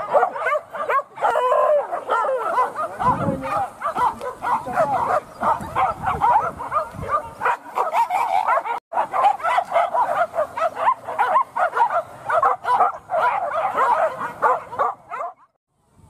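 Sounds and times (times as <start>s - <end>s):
dogs yelping and whining: 0.0s - 15.5s.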